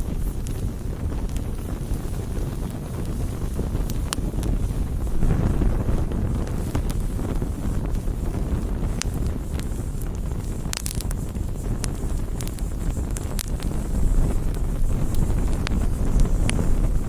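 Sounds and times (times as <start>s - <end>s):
bonfire flames roaring: 0.0s - 17.0s
burning wood crackling: 0.0s - 17.0s.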